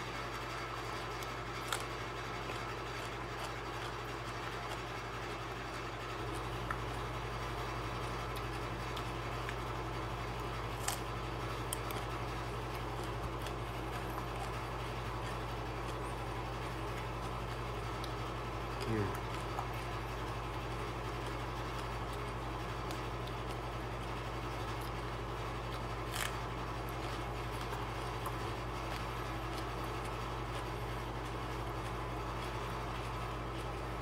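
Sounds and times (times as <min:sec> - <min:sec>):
low mechanical hum with hiss: 0:00.0 - 0:34.0.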